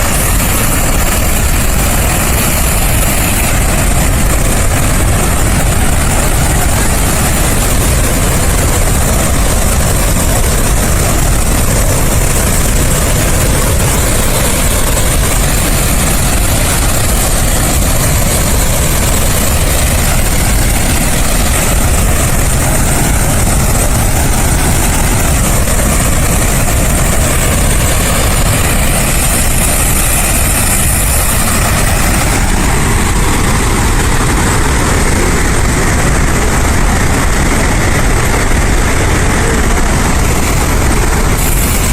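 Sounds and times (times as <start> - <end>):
water rushing from dam: 0.0 - 41.9.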